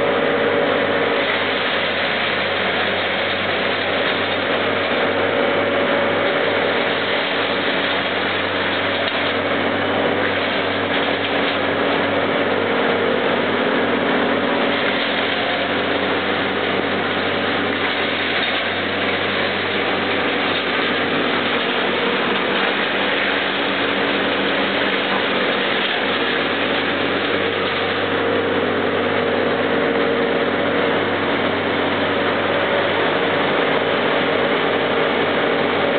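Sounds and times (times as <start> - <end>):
tractor engine drone: 0.0 - 35.9
woodchipper rushing noise: 0.0 - 35.9.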